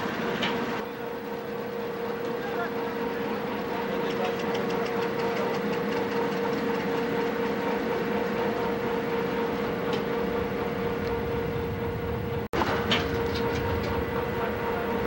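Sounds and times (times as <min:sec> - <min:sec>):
ship machinery droning: 0:00.0 - 0:15.0.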